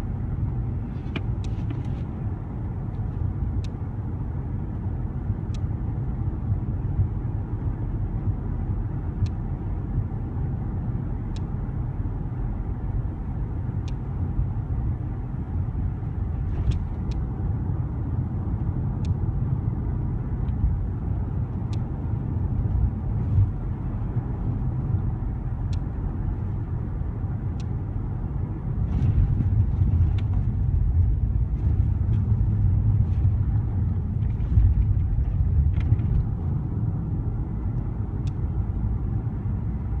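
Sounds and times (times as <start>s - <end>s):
car road and engine rumble: 0.0s - 40.0s.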